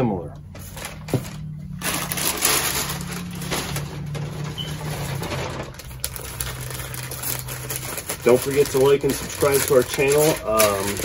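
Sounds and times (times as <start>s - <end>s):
low steady hum: 0.0s - 11.0s
tissue paper crinkling: 0.5s - 11.0s.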